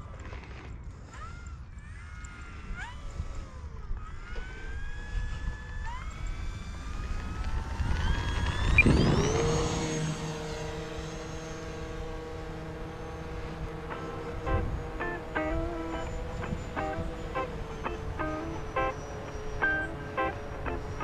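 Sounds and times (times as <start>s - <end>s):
model plane electric motor whining: 0.3s - 21.0s.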